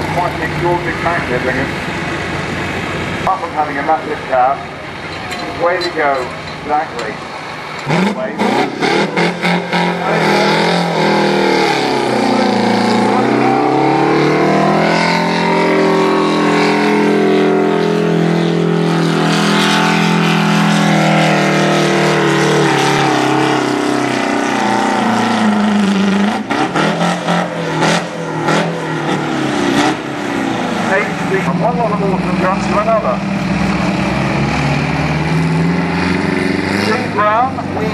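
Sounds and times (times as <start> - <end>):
diesel tractor engine at full throttle: 0.0 - 37.9.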